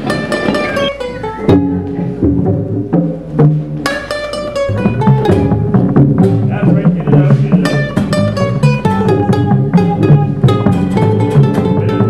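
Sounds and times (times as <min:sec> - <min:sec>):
busy bass line: 0:00.0 - 0:12.0
plucked string notes: 0:00.0 - 0:12.0.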